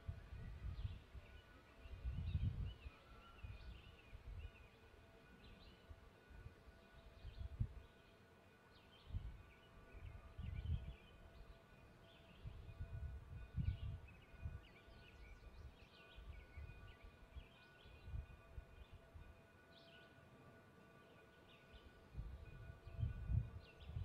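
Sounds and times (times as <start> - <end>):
faint birdsong chirps: 0.3 - 24.0.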